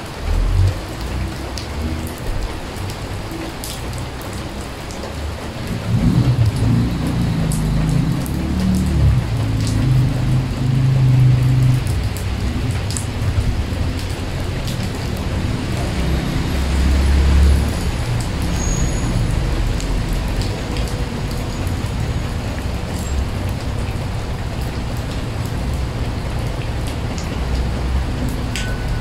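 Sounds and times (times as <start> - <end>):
rain falling on a puddle: 0.0 - 29.0.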